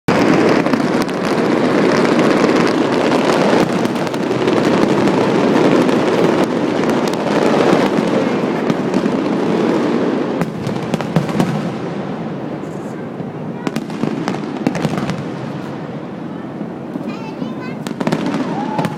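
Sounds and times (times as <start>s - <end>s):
fireworks bangs and crackles: 0.1s - 18.9s.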